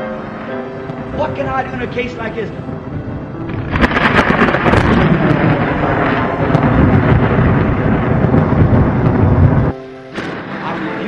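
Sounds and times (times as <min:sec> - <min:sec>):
rolling thunder: 0:00.0 - 0:11.0.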